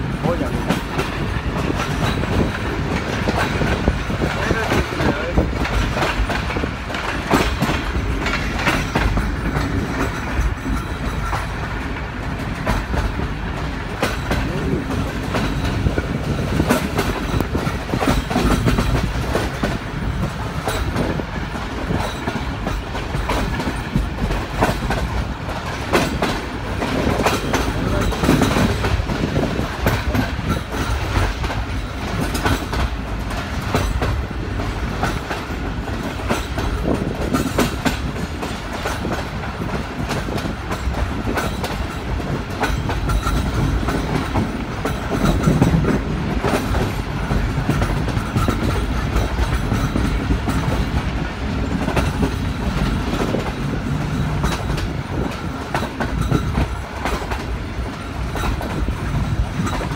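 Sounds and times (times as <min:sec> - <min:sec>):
train rumbling: 0:00.0 - 0:59.9
wheels clattering over rails: 0:00.0 - 0:59.9.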